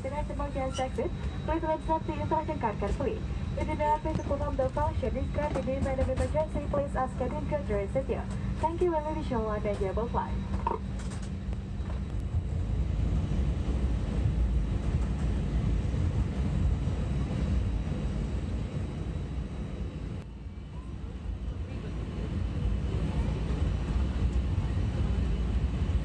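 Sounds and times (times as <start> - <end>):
jet engine rumble in cabin: 0.0 - 26.0.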